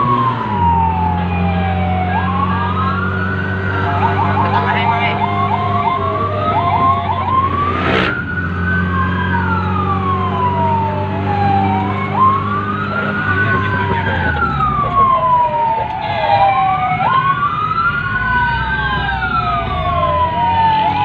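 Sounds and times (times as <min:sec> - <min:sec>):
engine drone: 0:00.0 - 0:21.0
fire truck siren: 0:00.0 - 0:21.0.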